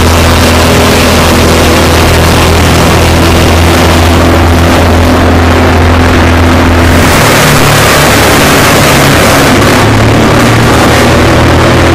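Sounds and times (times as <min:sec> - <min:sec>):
wood chipper chipping tree: 0:00.0 - 0:11.9
wood chipper engine drone: 0:00.0 - 0:11.9.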